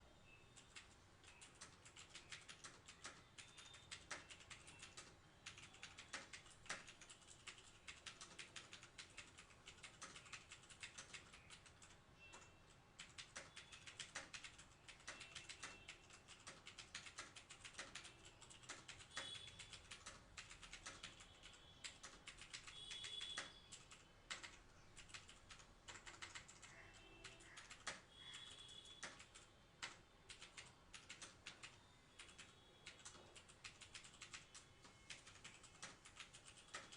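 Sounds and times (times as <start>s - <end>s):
fast mechanical keyboard typing: 0.6s - 36.9s.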